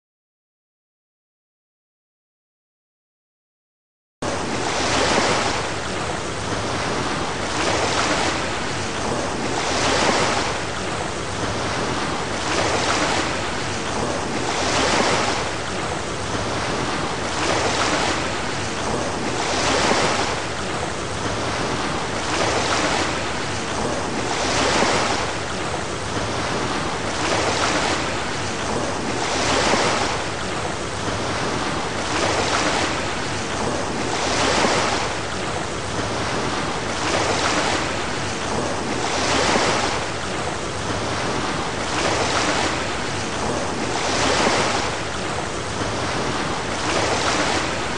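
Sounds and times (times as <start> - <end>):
sea surf washing: 4.2 - 47.9.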